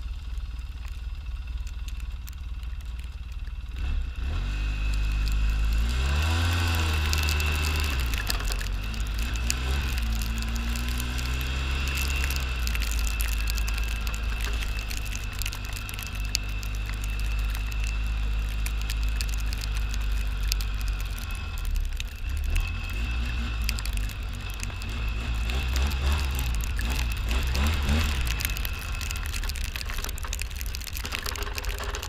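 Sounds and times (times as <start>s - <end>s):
snowmobile engine running: 0.0s - 32.0s.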